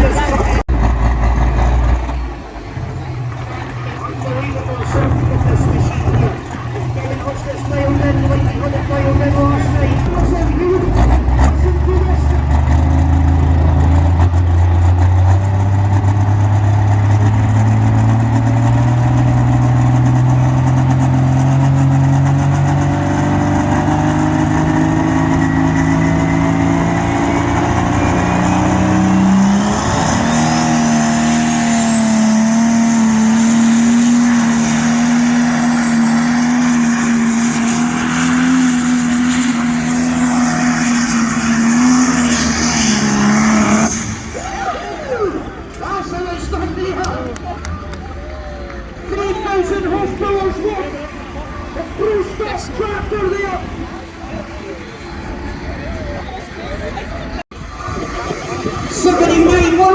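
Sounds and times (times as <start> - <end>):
tractor engine under full load: 0.0 - 59.9.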